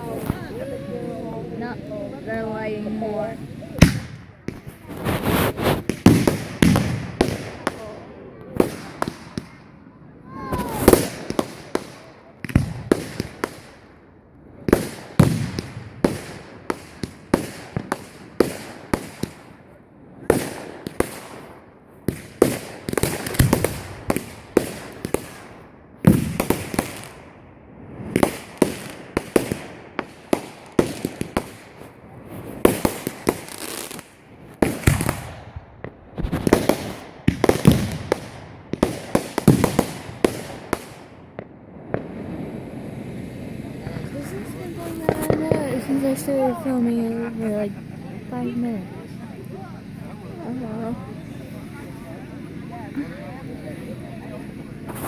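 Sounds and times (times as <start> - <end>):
fireworks cracking and banging: 0.0 - 55.0.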